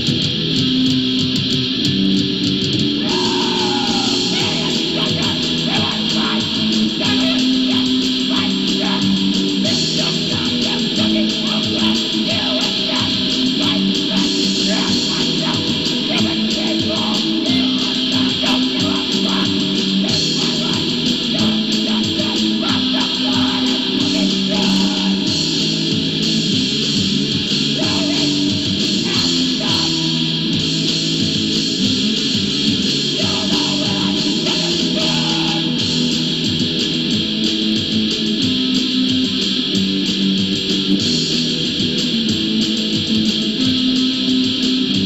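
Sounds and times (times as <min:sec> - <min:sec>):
rock song with guitar: 0:00.0 - 0:45.0.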